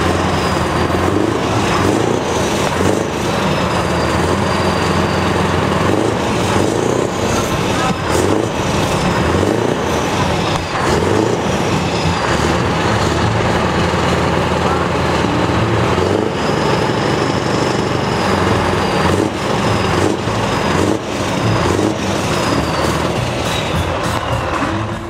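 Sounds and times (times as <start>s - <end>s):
diesel truck engines idling: 0.0s - 25.0s.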